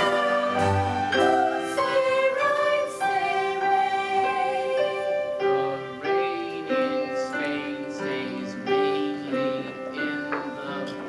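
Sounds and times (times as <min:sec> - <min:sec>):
chorus singing held notes: 0:00.0 - 0:11.0
instrumental accompaniment: 0:00.0 - 0:11.0.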